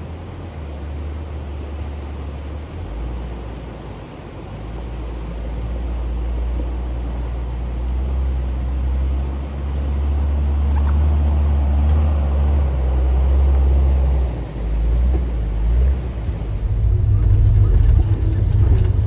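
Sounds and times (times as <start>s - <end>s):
tyre and trail noise: 0.0s - 19.0s
vehicle engine droning: 0.0s - 19.0s.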